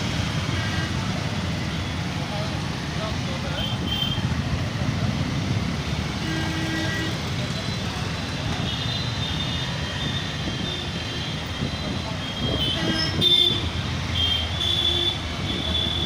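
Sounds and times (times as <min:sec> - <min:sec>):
motorcycle engine and road rumble: 0:00.0 - 0:16.0.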